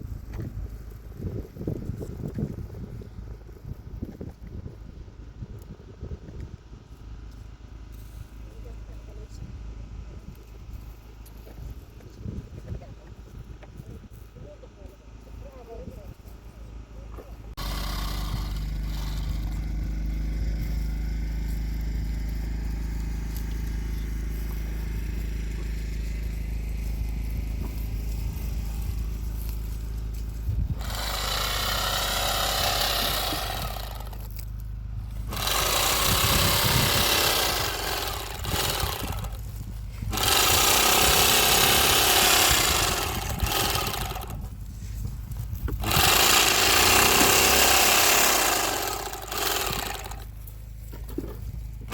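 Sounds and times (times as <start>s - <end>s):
small engine humming: 7.3s - 51.9s.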